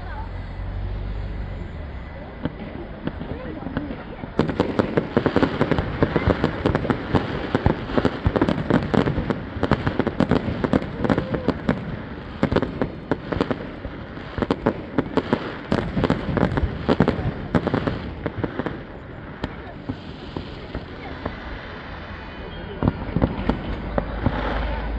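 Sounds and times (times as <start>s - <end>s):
continuous crackle: 0.0s - 24.9s
fireworks cracks and bangs: 0.0s - 24.9s.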